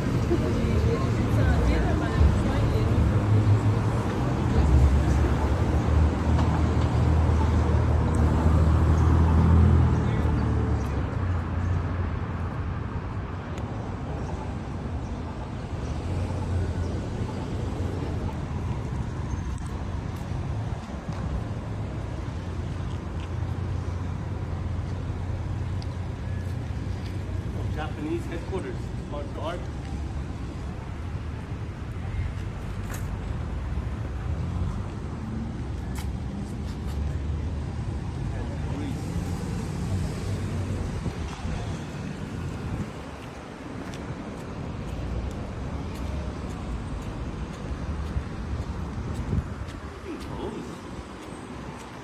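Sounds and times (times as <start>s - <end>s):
moving vehicle rumble: 0.0s - 52.0s
road noise: 0.0s - 52.0s.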